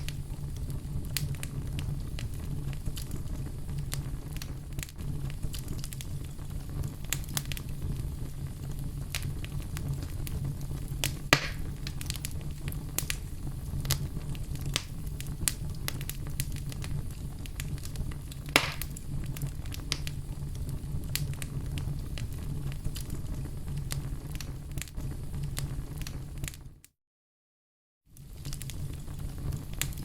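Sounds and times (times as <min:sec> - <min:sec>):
loud fire pops: 0:00.0 - 0:26.8, 0:28.1 - 0:30.0
fire crackling in fireplace: 0:00.0 - 0:26.9, 0:28.1 - 0:30.0.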